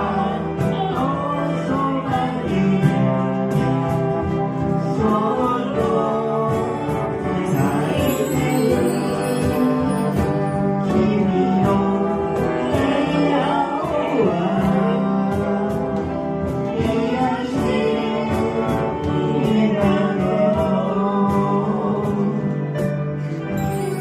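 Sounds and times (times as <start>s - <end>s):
voices singing sustained notes: 0.0s - 22.6s
instrumental accompaniment: 0.0s - 24.0s.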